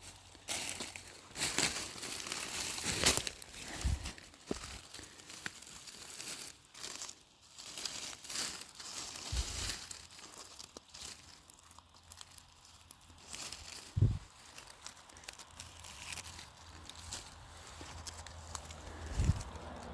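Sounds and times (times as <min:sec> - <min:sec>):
rustling and crinkling: 0:00.0 - 0:19.9.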